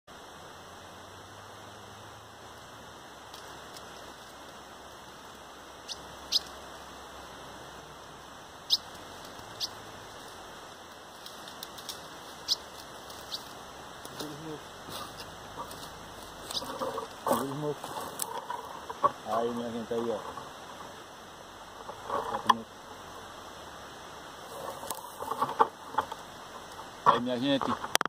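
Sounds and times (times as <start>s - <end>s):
steady background hiss: 0.1s - 28.0s.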